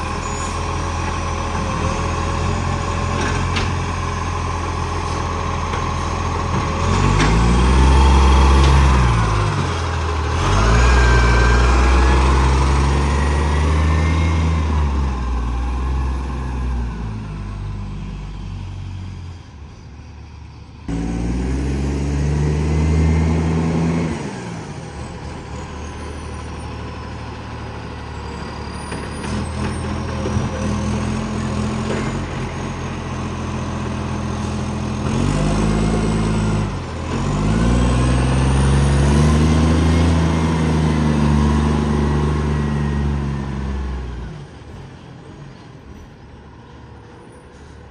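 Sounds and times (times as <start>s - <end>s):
diesel truck engine revving: 0.0s - 19.3s, 20.9s - 44.6s.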